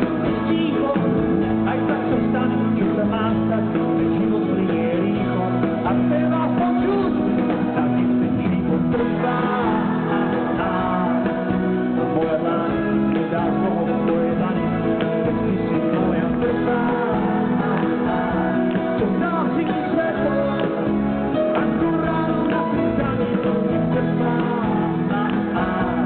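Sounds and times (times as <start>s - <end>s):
pop-rock band playing live: 0.0s - 26.0s
singer singing: 0.0s - 26.0s.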